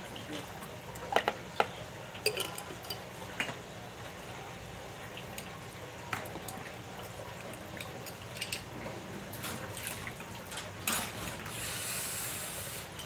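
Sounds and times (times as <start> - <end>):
small water splashes: 0.0 - 11.9
faint water drips: 0.0 - 13.0.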